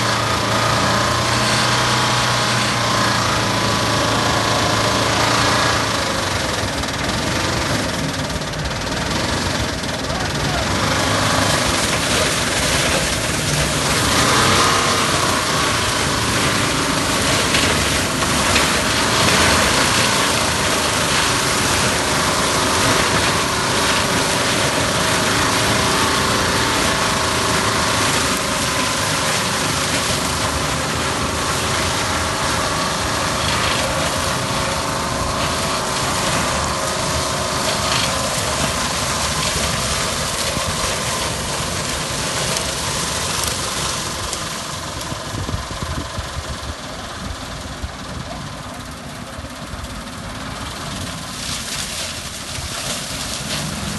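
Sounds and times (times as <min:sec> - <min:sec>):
tractor engine: 0:00.0 - 0:53.9.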